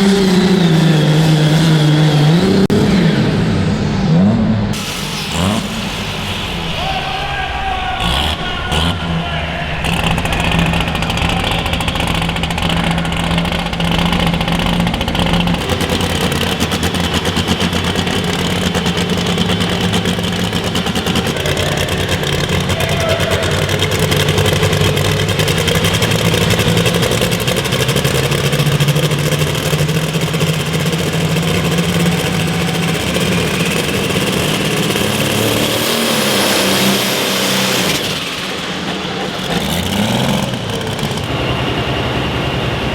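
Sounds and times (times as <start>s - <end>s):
engine revving under load: 0.0s - 42.9s.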